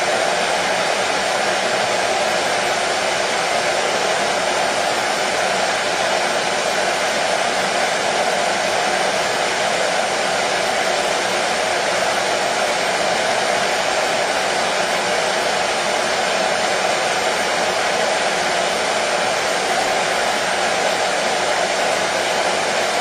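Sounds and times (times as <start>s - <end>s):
hair dryer running: 0.0s - 23.0s.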